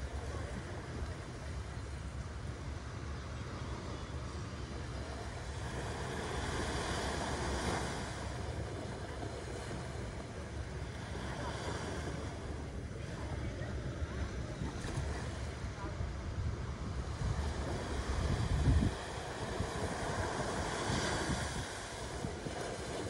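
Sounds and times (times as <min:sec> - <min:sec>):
waves washing onto sand: 0:00.0 - 0:23.0
wind rumble on microphone: 0:00.0 - 0:23.0.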